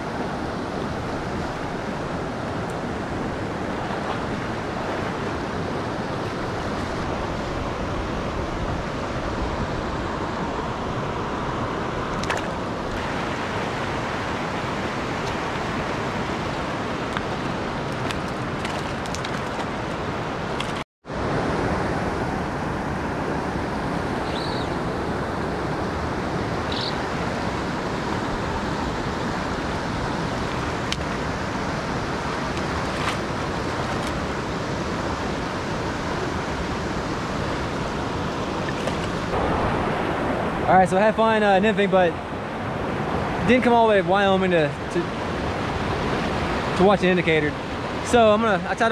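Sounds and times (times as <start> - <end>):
stream rushing over rocks: 0.0 - 21.6, 24.0 - 48.9.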